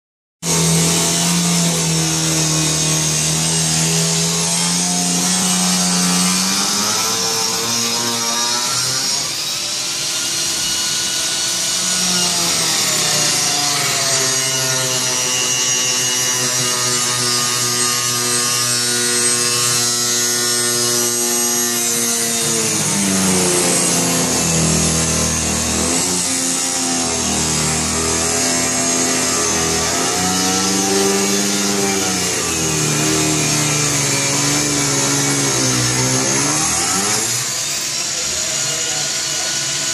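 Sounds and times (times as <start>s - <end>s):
angle grinder cutting: 0.4s - 39.9s.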